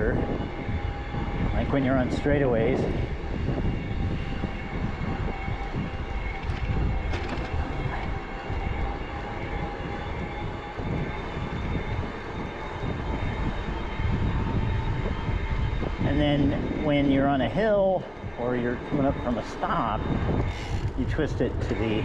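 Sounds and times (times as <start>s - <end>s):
faint steady whine: 0.0s - 22.0s
road noise: 0.0s - 22.0s
wind buffeting microphone: 0.0s - 22.0s.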